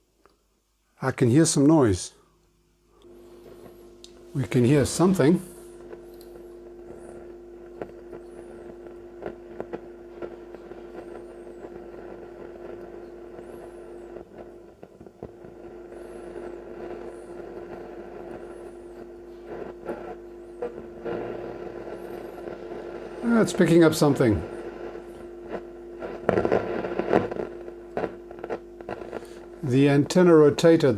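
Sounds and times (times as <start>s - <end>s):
radio hum and hiss: 0.0s - 30.9s
radio crackles: 2.9s - 30.9s.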